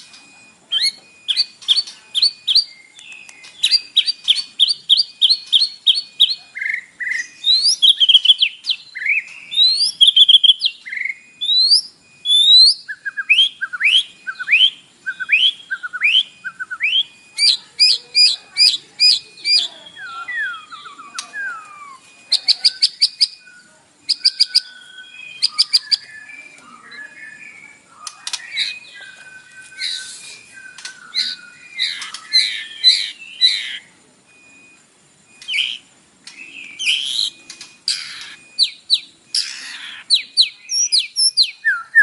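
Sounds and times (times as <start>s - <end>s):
bird singing varied song: 0.0s - 34.7s, 35.3s - 42.0s.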